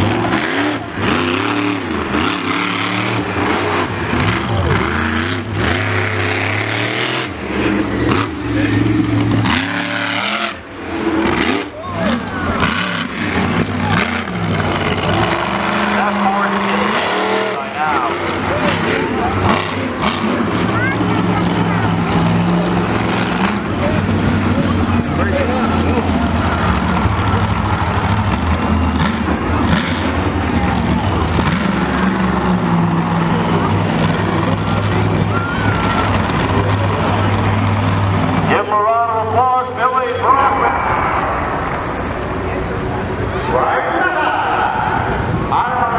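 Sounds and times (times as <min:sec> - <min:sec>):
loud vehicle engine revving: 0:00.0 - 0:45.9.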